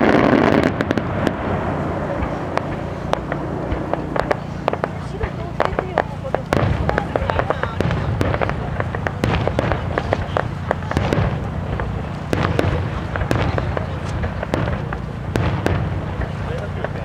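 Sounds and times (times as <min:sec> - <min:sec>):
fireworks cracking and crackling: 0:00.0 - 0:17.0
low rumble of fireworks booms: 0:00.0 - 0:17.0.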